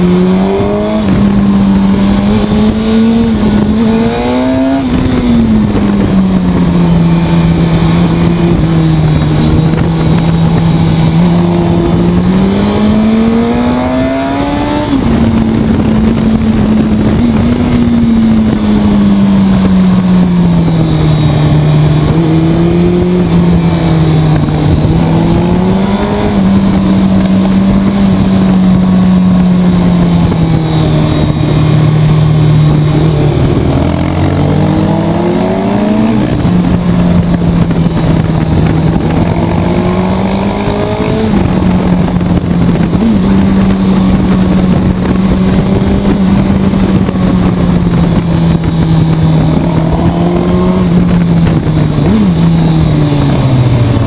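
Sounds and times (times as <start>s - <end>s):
motorcycle engine revving: 0.0s - 54.0s
wind and road rush: 0.0s - 54.0s.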